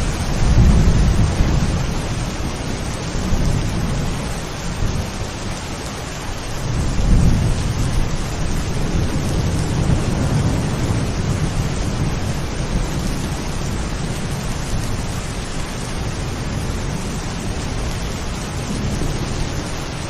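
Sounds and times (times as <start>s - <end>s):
rolling thunder rumble: 0.0s - 5.6s, 6.6s - 20.0s
heavy rain: 0.0s - 20.0s.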